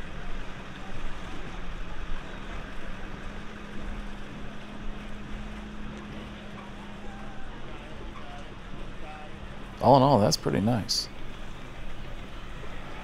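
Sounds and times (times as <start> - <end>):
motorboat engine idling: 0.0 - 13.0.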